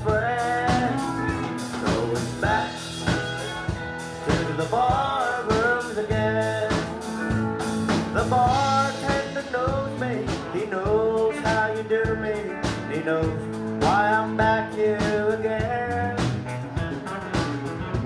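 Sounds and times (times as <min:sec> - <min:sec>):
live country band playing: 0:00.0 - 0:18.0
steady drum beat: 0:00.0 - 0:18.0.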